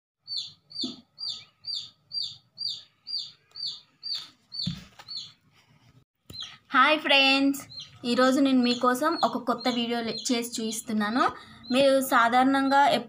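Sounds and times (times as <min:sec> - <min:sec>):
bird chirping: 0:00.2 - 0:05.4, 0:06.2 - 0:13.0.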